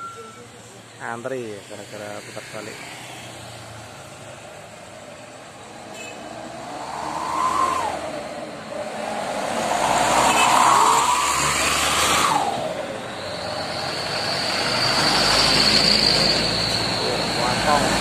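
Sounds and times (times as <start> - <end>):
trucks passing on a road: 0.0 - 18.0.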